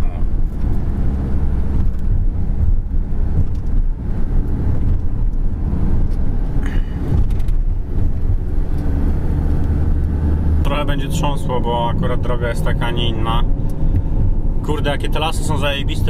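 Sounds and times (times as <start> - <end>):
van engine and road rumble: 0.0 - 16.0.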